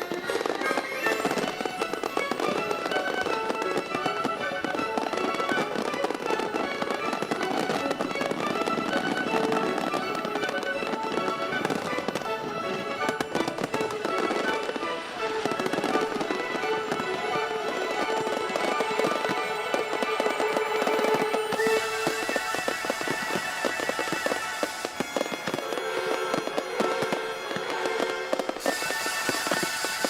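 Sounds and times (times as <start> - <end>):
fireworks crackling and popping: 0.0 - 30.0
music with held melodic notes: 0.0 - 30.0.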